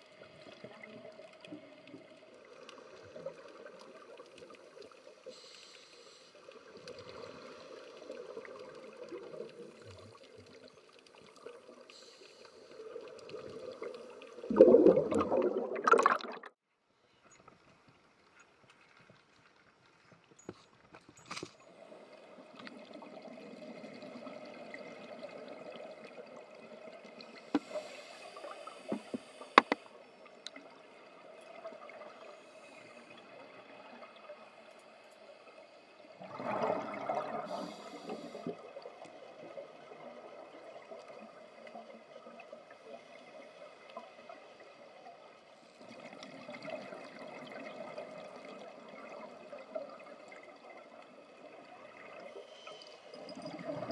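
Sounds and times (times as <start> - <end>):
underwater bubbles gurgling: 0.0 - 5.6, 6.4 - 16.6, 21.7 - 53.9.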